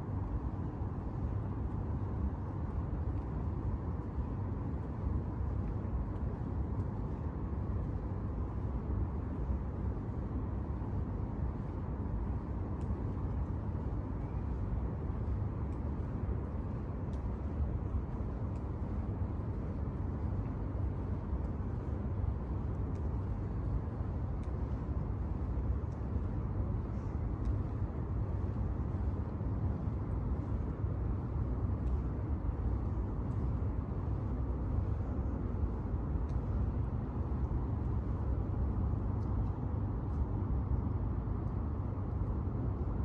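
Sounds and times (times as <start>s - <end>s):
faint light ticks: 0.0s - 43.0s
low city rumble: 0.0s - 43.0s.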